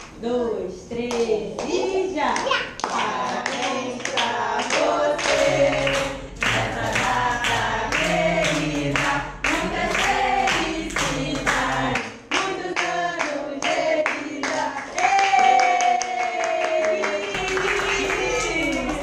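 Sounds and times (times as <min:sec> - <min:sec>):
group singing a birthday song: 0:02.8 - 0:19.0
people clapping in time: 0:02.8 - 0:19.0.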